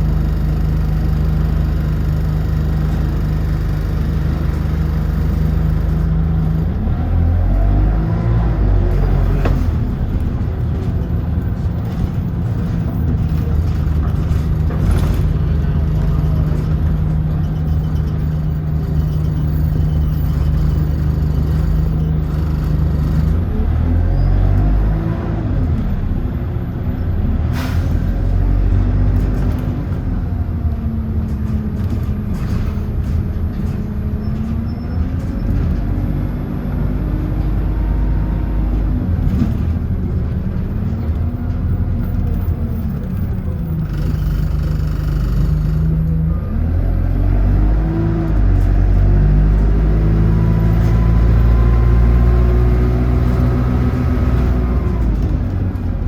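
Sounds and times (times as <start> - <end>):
bus engine rumbling: 0.0 - 56.0.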